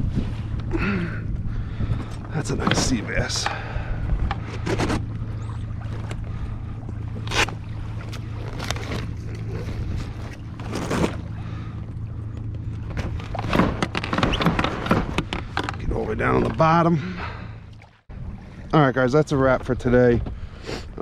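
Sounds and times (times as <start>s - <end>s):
water slapping kayak hull: 0.0s - 20.6s
low wind rumble: 0.0s - 21.0s.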